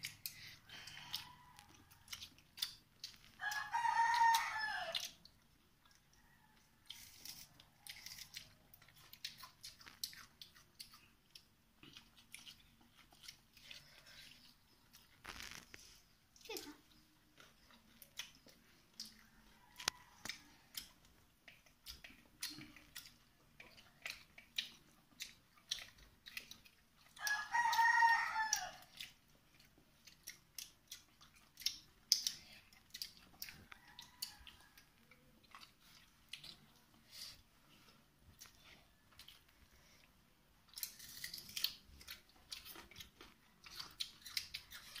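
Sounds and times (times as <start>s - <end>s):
people chewing food: 0.0s - 45.0s.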